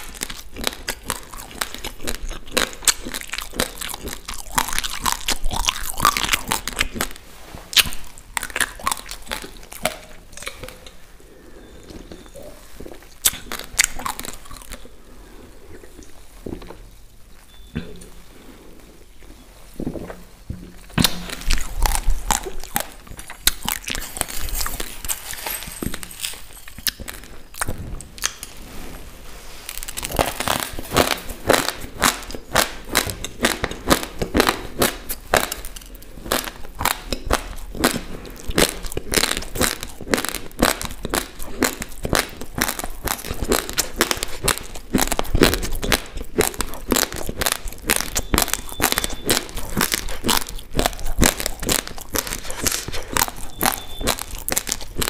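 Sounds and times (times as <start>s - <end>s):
crunching of dry rice grains: 0.0s - 55.0s.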